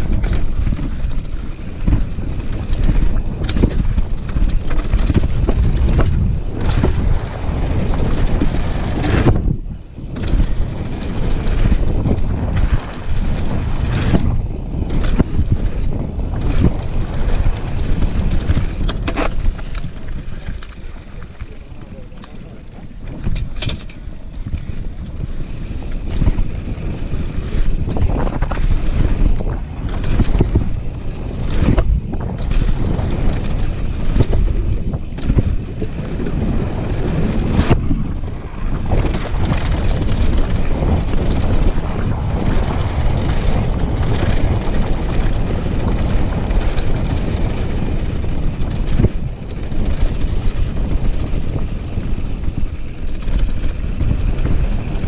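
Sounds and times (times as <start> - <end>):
bike knocks and rattles: 0.0 - 55.0
tyre noise on gravel: 0.0 - 55.0
wind buffeting microphone: 0.0 - 55.0.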